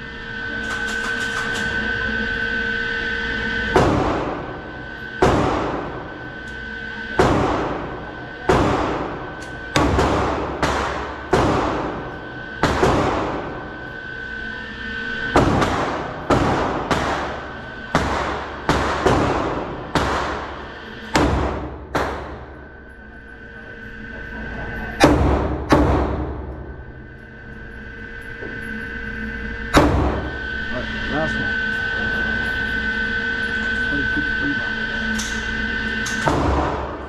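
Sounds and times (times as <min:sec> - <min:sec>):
pistol shots echoing indoors: 0:00.2 - 0:24.0, 0:24.8 - 0:30.7, 0:34.8 - 0:37.0.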